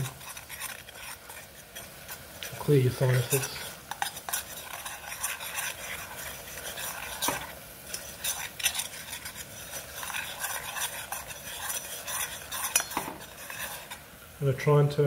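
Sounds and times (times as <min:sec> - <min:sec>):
spoon scraping a saucepan: 0:00.0 - 0:14.2
syrup sizzling: 0:00.0 - 0:15.0.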